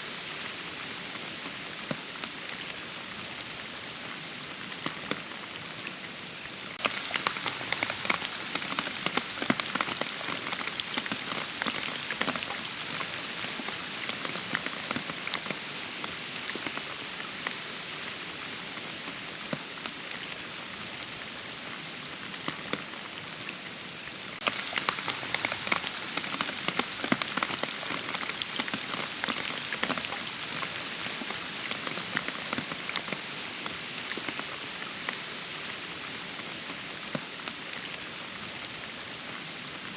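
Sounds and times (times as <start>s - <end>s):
rain falling: 0.0s - 39.9s
raindrops striking close by: 0.0s - 39.9s.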